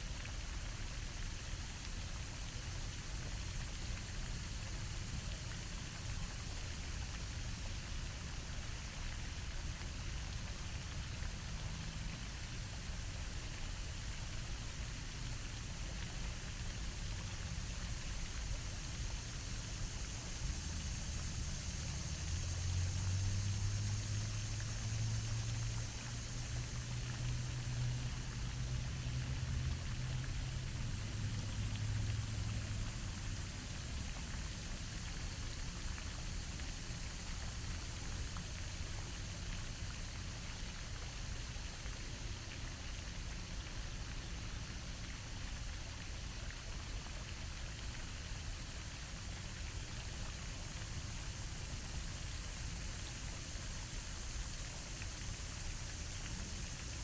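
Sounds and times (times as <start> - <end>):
fountain spray splashing on water: 0.0 - 57.0.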